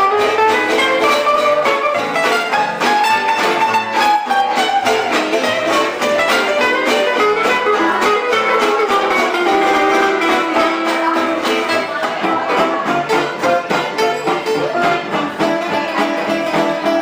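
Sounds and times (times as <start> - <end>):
strummed guitar: 0.0 - 17.0
violin: 0.0 - 17.0.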